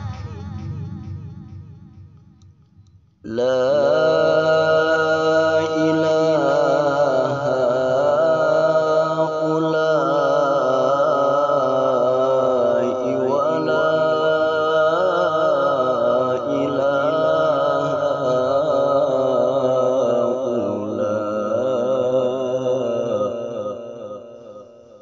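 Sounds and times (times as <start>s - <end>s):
man reciting melodically: 3.2s - 24.8s.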